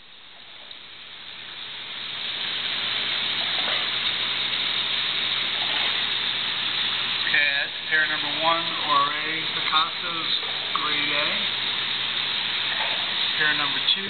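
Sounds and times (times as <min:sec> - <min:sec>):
aquarium water rushing: 0:00.0 - 0:14.0
low steady hum: 0:00.0 - 0:14.0.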